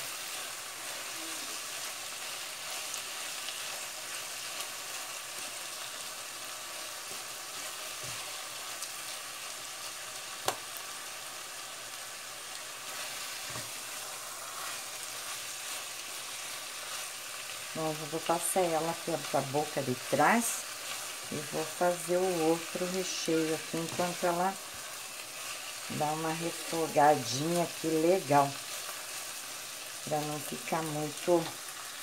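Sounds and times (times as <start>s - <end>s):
meat sizzling in a pot: 0.0s - 32.0s.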